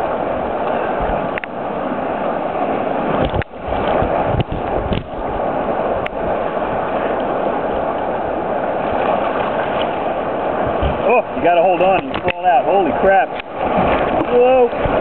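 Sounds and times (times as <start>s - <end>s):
rapids rushing and splashing: 0.0s - 15.0s.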